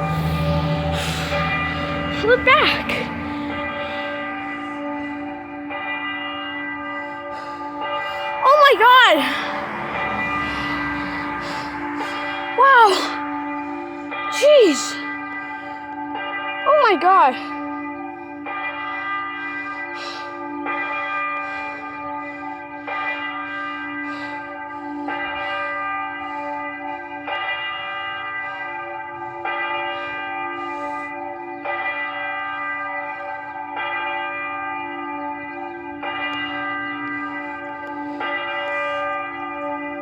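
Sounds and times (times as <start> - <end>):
church bell tolling: 0.0 - 40.0.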